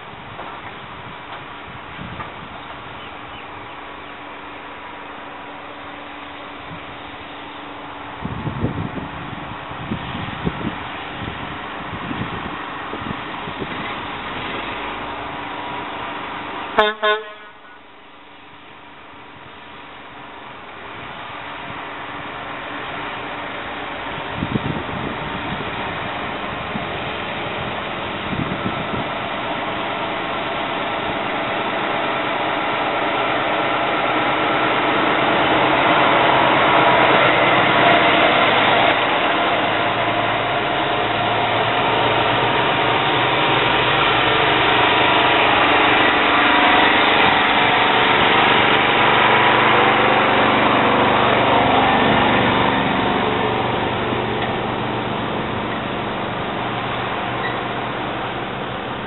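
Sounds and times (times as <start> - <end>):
heavy truck diesel engine: 0.0 - 59.0.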